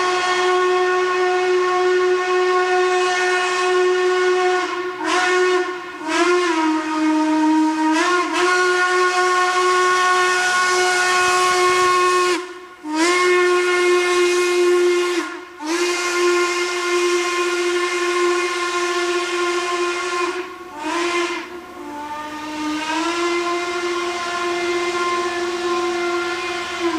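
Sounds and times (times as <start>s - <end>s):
train whistle blasts: 0.0s - 26.9s
hiss of escaping steam: 2.5s - 26.9s.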